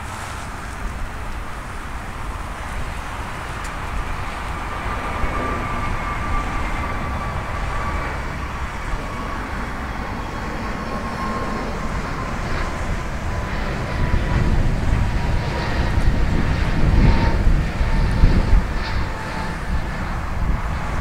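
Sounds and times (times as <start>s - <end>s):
jet engines roaring: 0.0s - 21.0s
thin high jet whine: 0.0s - 21.0s.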